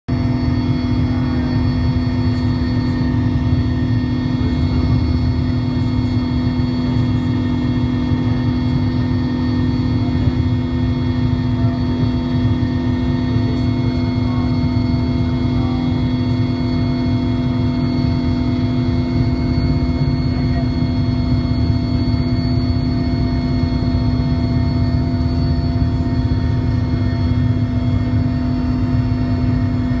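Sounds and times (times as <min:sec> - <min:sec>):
helicopter cabin engine drone: 0:00.1 - 0:30.0
steady high engine tones: 0:00.1 - 0:30.0.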